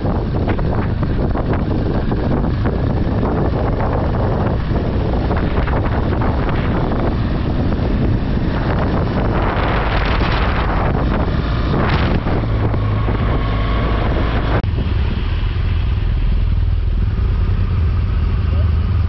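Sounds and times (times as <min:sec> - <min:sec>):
wind buffeting microphone: 0:00.0 - 0:18.2
motorcycle engine running: 0:00.0 - 0:19.0.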